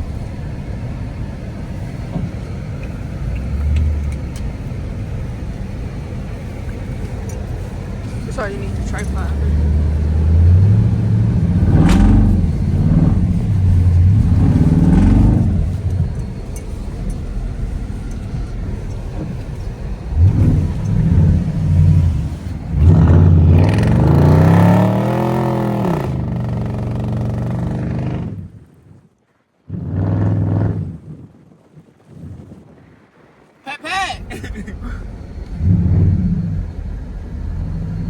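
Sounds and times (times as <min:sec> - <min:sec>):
car engine revving: 0:00.0 - 0:28.6, 0:29.7 - 0:30.9, 0:34.3 - 0:38.0.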